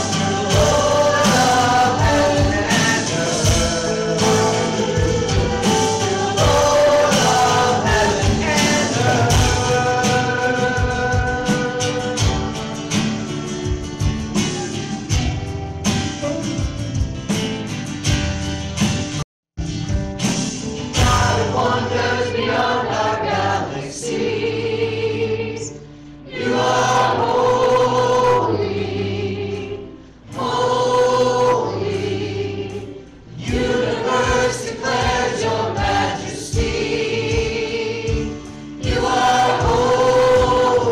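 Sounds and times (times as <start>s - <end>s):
gospel choir singing with instruments: 0.0s - 18.3s, 20.3s - 40.9s.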